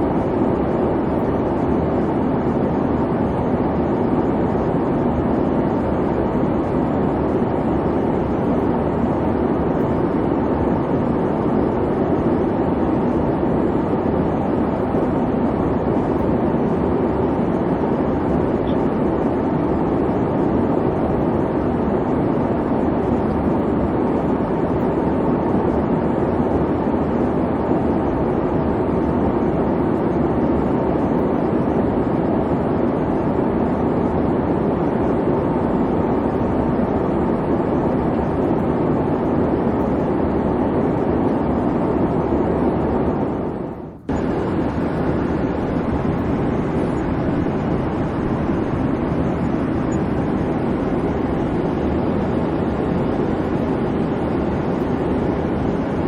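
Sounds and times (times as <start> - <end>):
airplane engines rumbling: 0.0 - 56.0.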